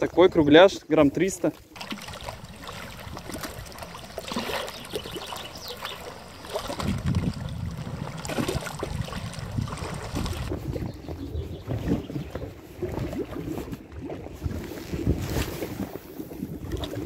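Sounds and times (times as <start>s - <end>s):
water trickling and splashing: 0.0s - 17.0s
wind buffeting microphone: 2.1s - 17.0s.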